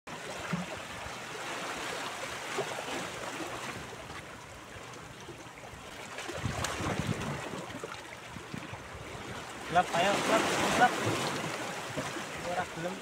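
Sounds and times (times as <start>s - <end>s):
sea water lapping on rocks: 0.1s - 13.0s.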